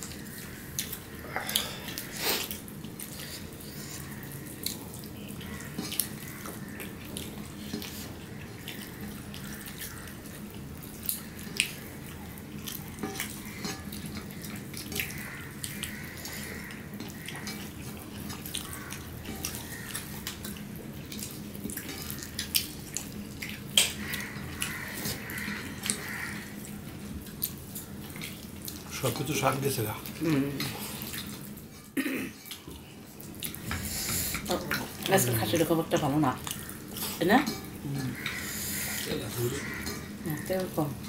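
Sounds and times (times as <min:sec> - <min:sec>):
mouths chewing: 0:00.0 - 0:31.7, 0:32.4 - 0:41.0.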